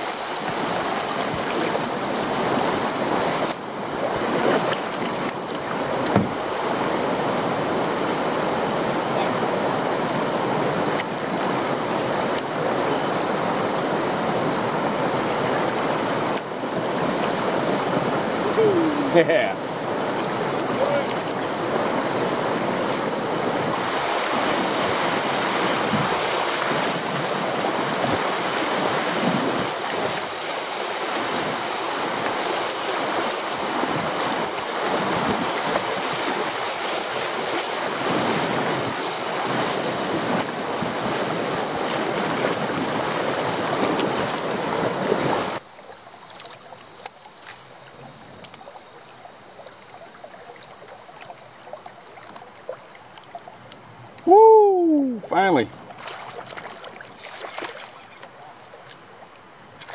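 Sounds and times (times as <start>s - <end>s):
calm water: 0.0s - 59.9s
rushing whitewater: 0.0s - 59.9s.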